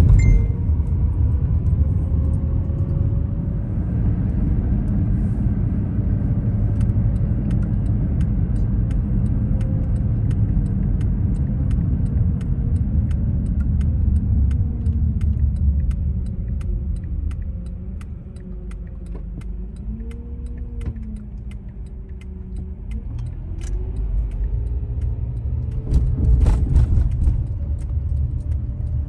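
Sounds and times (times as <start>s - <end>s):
low vehicle rumble: 0.0s - 29.0s.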